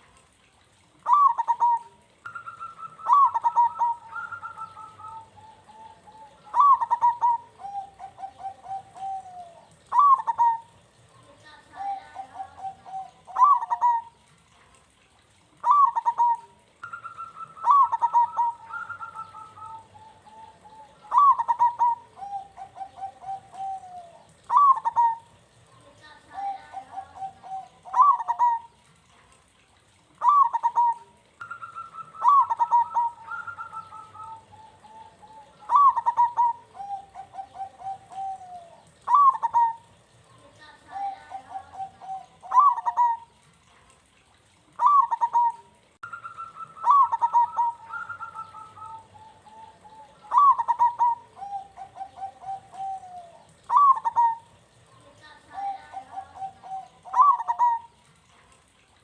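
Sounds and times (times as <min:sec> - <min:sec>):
dove cooing: 0:00.8 - 0:29.1, 0:30.0 - 0:58.4.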